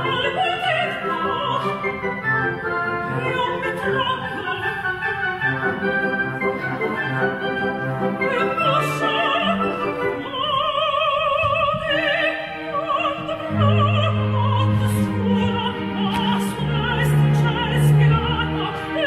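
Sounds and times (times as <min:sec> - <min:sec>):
operatic soprano singing: 0:00.0 - 0:19.0
orchestral accompaniment: 0:00.0 - 0:19.0.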